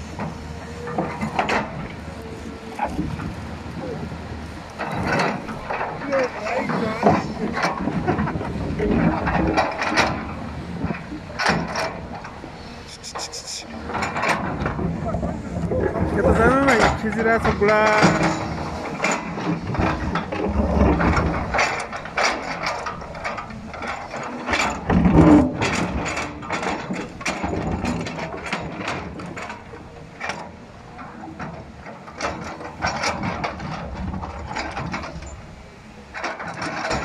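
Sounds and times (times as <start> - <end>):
excavator clanks and scrapes: 0.0 - 37.0.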